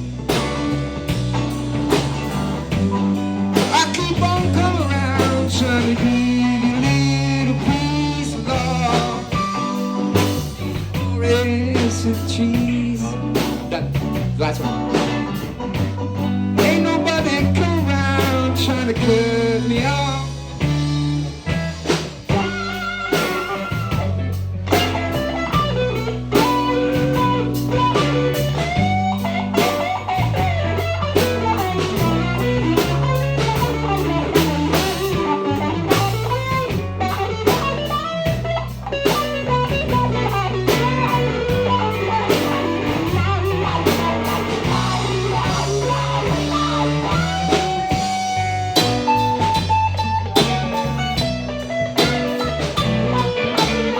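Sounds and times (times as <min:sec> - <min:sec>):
bass guitar: 0:00.0 - 0:53.9
drum kit: 0:00.0 - 0:53.9
lead electric guitar: 0:00.0 - 0:53.9.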